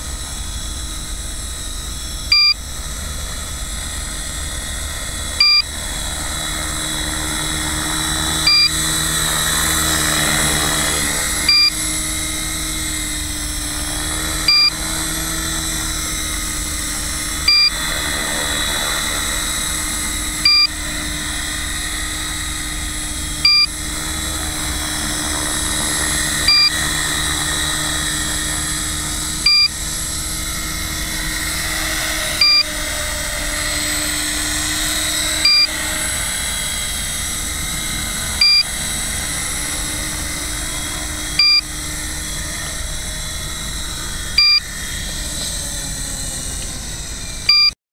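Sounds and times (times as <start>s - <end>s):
model helicopter motor whine: 0.0s - 47.8s.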